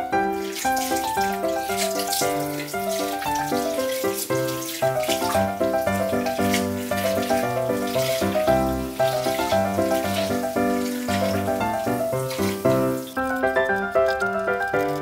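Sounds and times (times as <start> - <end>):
light piano music: 0.0 - 15.0
water pouring into glass tank: 0.1 - 14.9.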